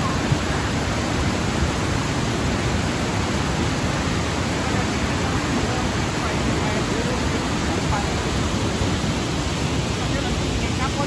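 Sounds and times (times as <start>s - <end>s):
water rushing over waterfall: 0.0s - 11.0s.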